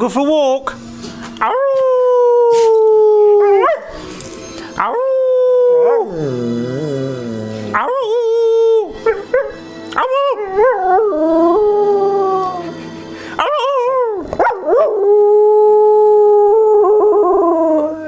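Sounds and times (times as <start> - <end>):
dog howling: 1.4 - 4.0, 4.8 - 12.8, 13.4 - 18.0.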